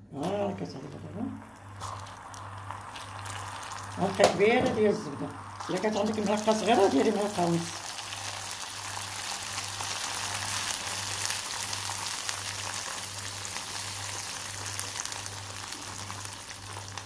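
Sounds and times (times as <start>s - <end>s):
caramel sizzling and crackling: 0.0s - 17.0s.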